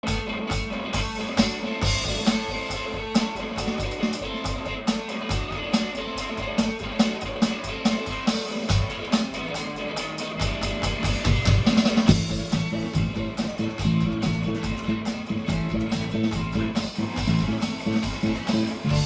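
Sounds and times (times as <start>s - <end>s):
drum kit beat: 0.0s - 19.0s
repeating guitar part: 0.0s - 19.0s.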